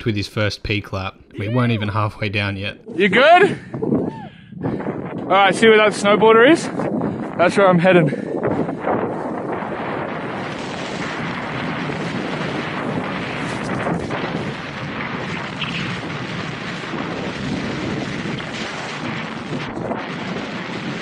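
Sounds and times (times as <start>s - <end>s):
wind buffeting microphone: 2.8s - 21.0s.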